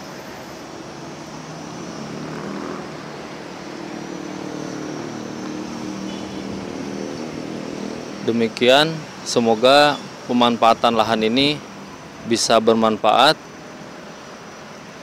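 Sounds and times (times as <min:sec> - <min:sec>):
passing traffic engine drone: 0:00.0 - 0:15.0.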